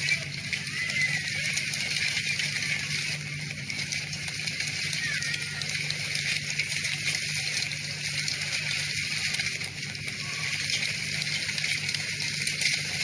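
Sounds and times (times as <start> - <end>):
hailstorm rushing noise: 0.0 - 13.0.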